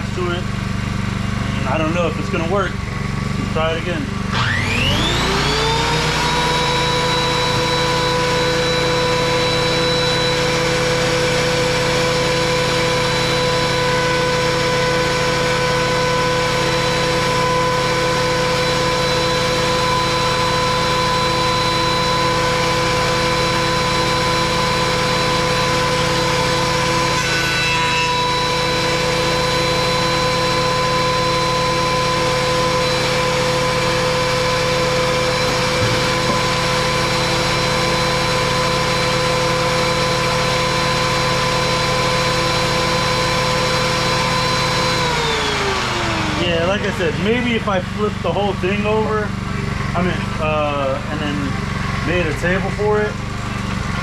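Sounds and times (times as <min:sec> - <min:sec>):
electric planer whining: 0:00.0 - 0:54.0.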